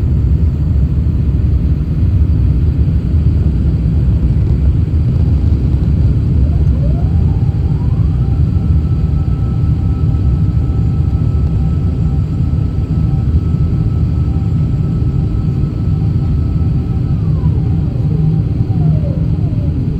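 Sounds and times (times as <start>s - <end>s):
jet engine whine: 0.0s - 19.9s
jet engines rumbling: 0.0s - 19.9s.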